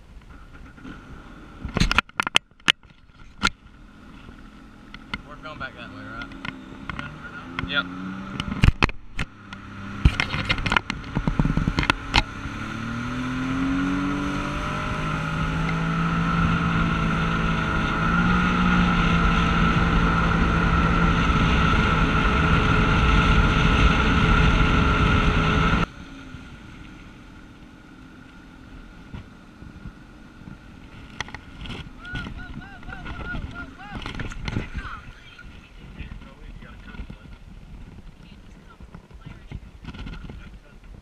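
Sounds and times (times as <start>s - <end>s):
jet ski engine under throttle: 0.0s - 41.0s.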